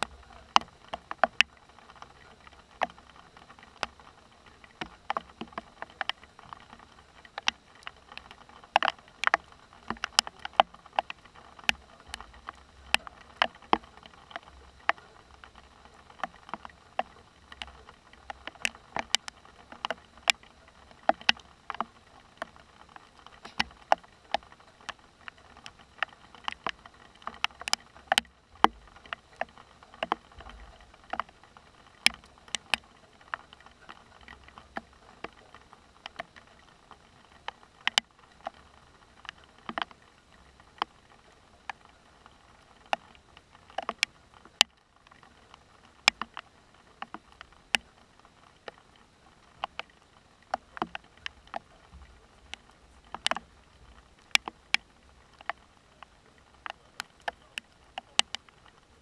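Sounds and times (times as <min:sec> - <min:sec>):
faint steady hiss: 0:00.0 - 0:59.0
heavy raindrops ticking: 0:00.0 - 0:59.0.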